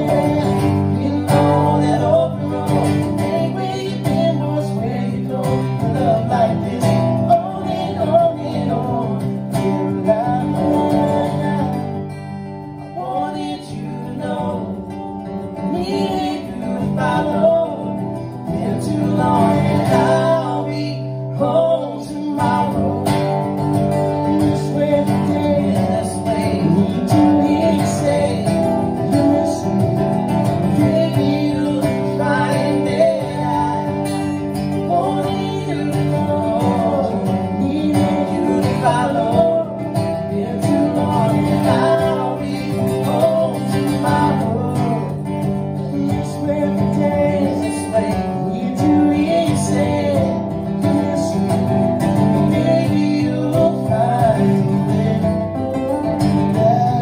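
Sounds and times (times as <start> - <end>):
acoustic guitars strumming: 0.0 - 57.0
man singing: 0.0 - 57.0.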